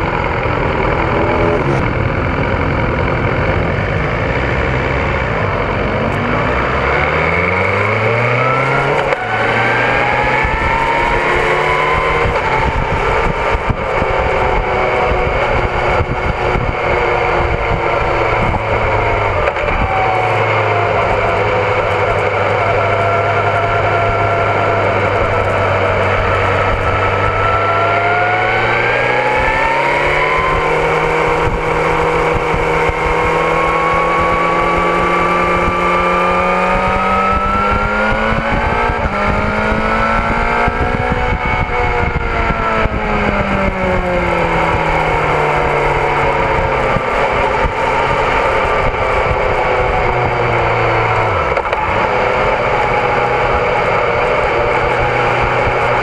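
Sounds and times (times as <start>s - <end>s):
motorcycle engine accelerating: 0.0s - 56.0s
rush of wind noise: 0.0s - 56.0s.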